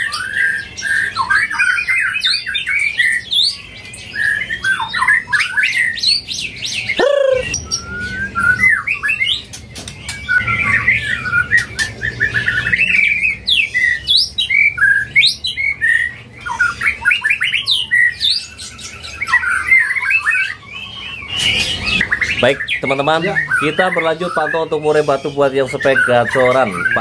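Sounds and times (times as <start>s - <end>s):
songbird whistling and chirping: 0.0s - 27.0s.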